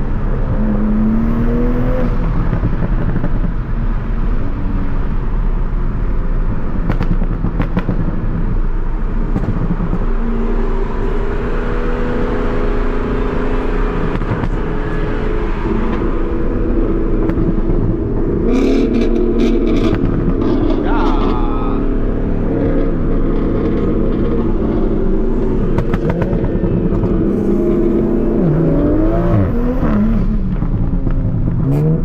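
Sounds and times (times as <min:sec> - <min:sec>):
car engine cruising: 0:00.0 - 0:32.0
road rumble: 0:00.0 - 0:32.0.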